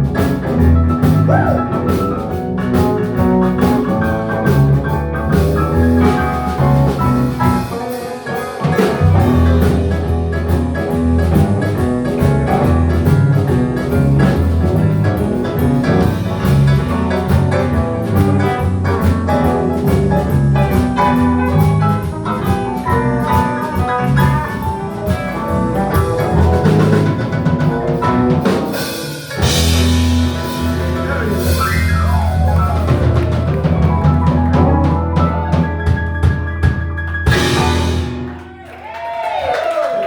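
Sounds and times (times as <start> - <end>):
live band music: 0.0 - 39.0.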